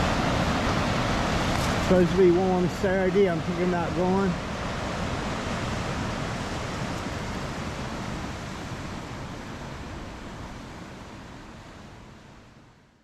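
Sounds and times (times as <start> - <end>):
rushing river water: 0.0 - 13.0.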